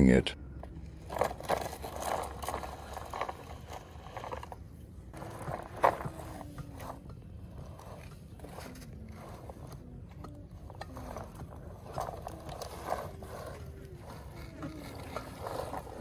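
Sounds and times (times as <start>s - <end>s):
rustling scrapes: 0.8s - 16.0s
toy geared motor whirring: 1.1s - 16.0s.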